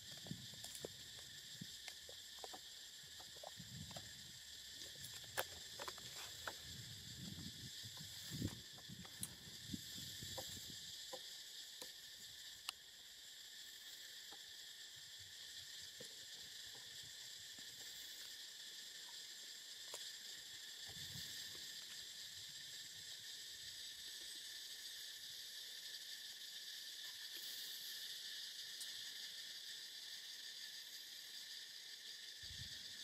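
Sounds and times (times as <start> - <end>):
insect chorus droning: 0.0 - 33.0.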